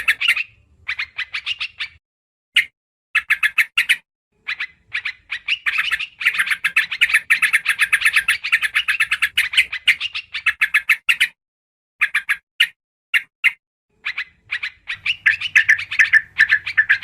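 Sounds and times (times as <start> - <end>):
bird chattering calls: 0.0 - 2.0, 2.6 - 11.4, 12.0 - 17.0.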